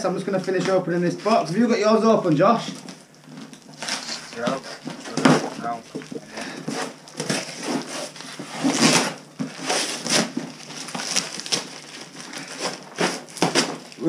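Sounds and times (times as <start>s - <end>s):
packing paper rustling and crumpling: 0.3s - 14.0s.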